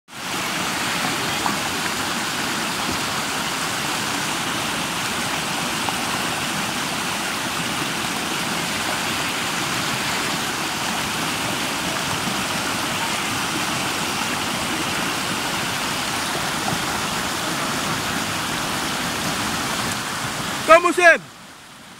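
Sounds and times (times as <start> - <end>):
river water rushing: 0.1 - 21.9.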